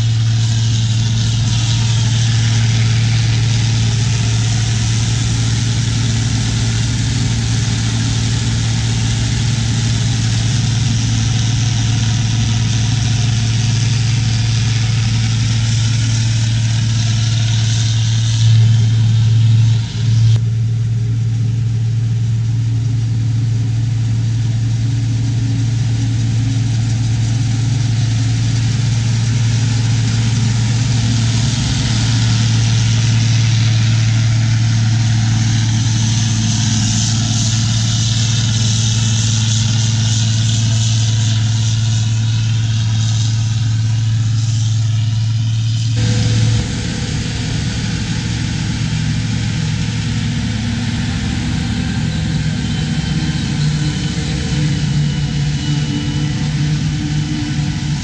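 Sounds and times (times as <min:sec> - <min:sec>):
faint high whine: 0:00.0 - 0:58.0
harvester engine humming: 0:00.0 - 0:58.0.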